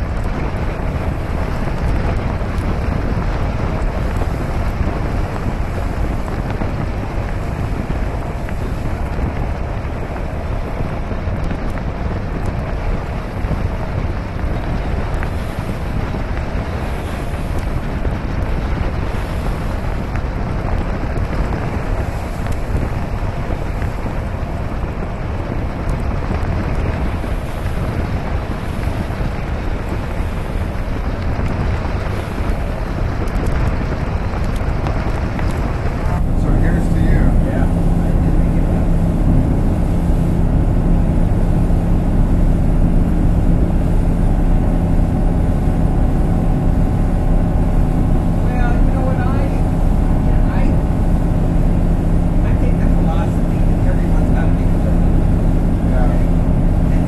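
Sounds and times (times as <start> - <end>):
water rushing along hull: 0.0 - 57.0
wind buffeting microphone: 0.0 - 57.0.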